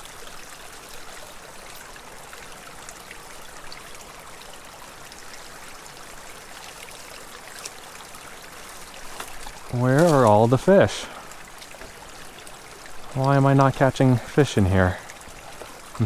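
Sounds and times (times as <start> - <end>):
creek trickling: 0.0 - 16.0.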